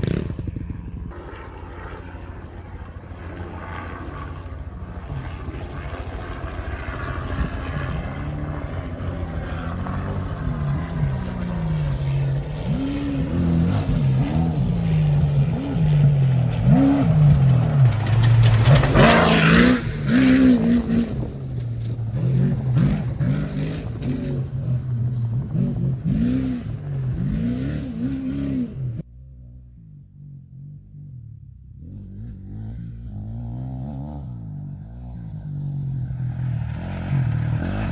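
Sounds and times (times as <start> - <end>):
off-road truck engine racing: 0.0 - 37.9.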